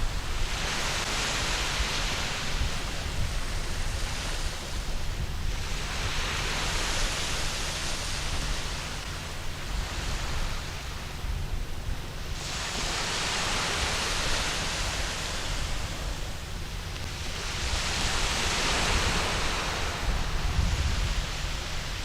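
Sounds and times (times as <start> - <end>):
low surf rumble: 0.0 - 22.0
waves washing onto beach: 0.0 - 22.0.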